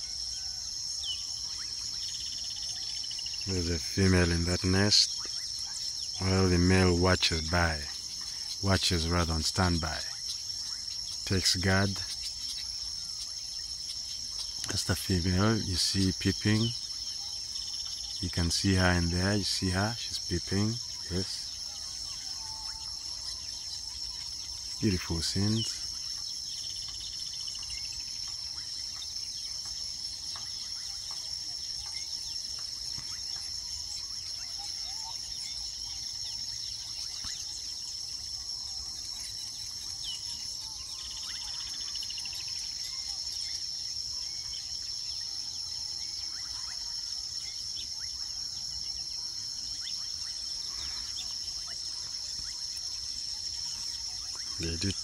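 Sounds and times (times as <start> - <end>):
bird chirps: 0.0 - 55.0
insect trill: 0.0 - 55.0.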